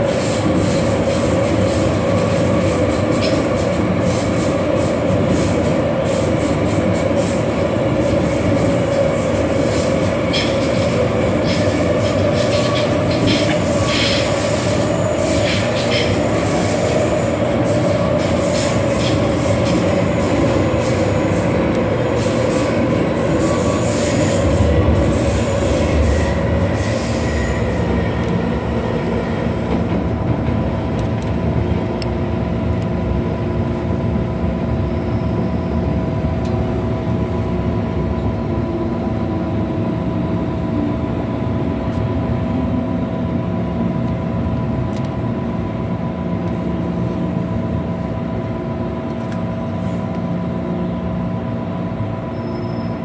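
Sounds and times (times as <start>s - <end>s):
train wheel and motor noise: 0.0s - 53.0s.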